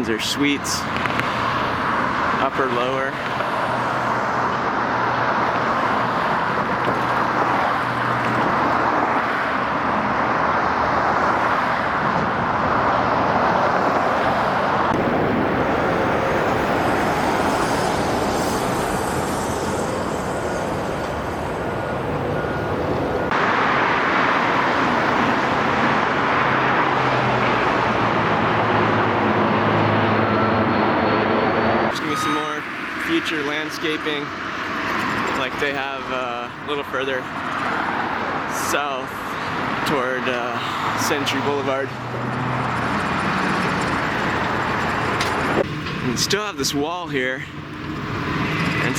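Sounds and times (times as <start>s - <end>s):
steady rushing noise: 0.0s - 48.9s.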